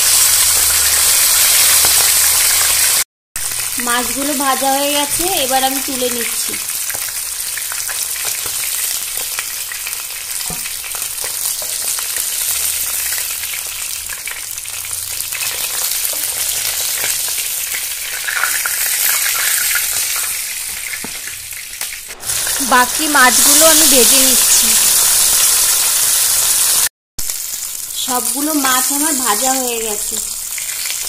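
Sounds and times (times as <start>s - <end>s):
fish sizzling in oil: 0.0s - 31.0s.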